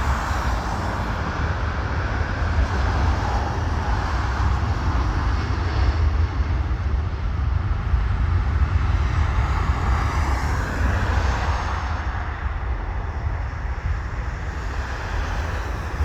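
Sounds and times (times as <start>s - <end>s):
jet engines at take-off: 0.0s - 16.0s.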